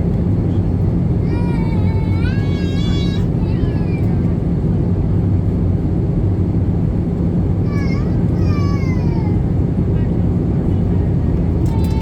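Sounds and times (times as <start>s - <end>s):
aircraft cabin engine hum: 0.0s - 12.0s.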